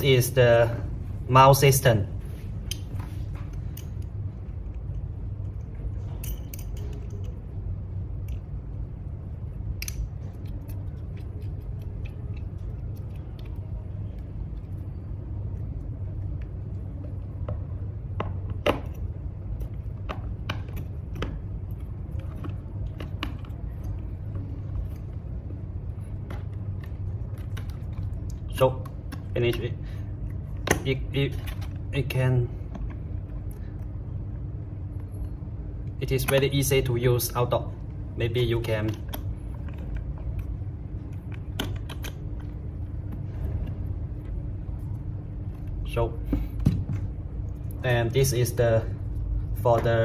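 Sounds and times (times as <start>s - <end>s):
low hum: 0.0s - 50.0s.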